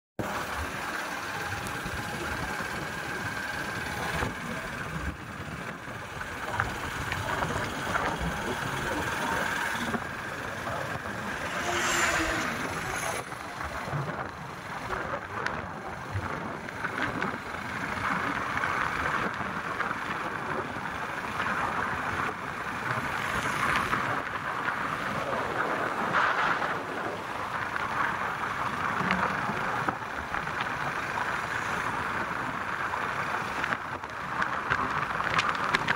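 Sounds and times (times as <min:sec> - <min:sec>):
motorcycle engine running: 0:00.2 - 0:35.9
wind rushing over microphone: 0:00.3 - 0:35.9.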